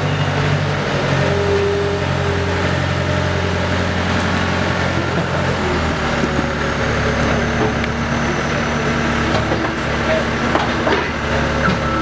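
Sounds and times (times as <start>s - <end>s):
skid-steer loader engine running: 0.0s - 12.0s.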